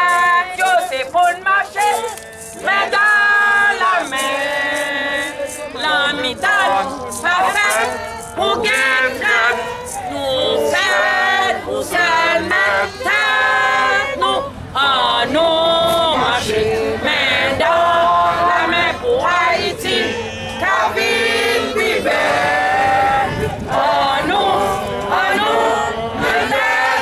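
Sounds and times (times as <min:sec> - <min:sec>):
group of people singing: 0:00.0 - 0:27.0.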